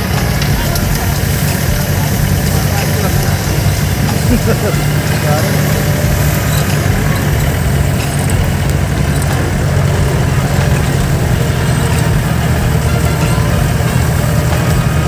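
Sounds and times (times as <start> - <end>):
jeep engine droning: 0.0 - 15.0.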